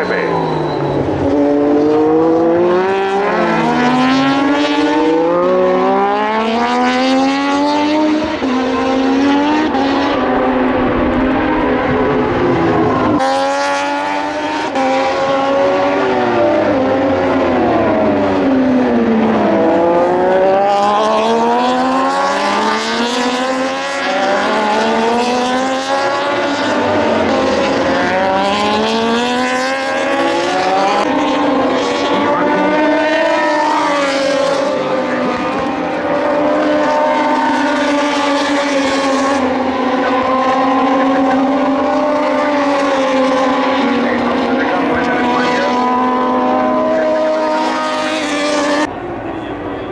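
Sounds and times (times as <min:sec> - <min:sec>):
racing motorcycle engines: 0:00.0 - 0:49.9.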